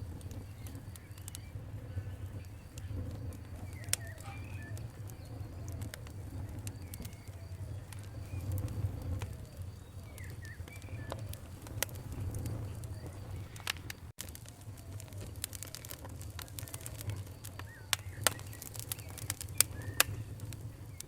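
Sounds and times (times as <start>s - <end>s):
birds chirping: 0.0s - 21.0s
campfire crackling and popping: 0.0s - 21.0s
low rumble of burning wood: 0.0s - 21.0s.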